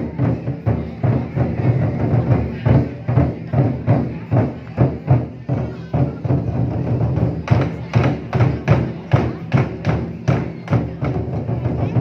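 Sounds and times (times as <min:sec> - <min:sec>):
lion dance drum: 0:00.0 - 0:12.0.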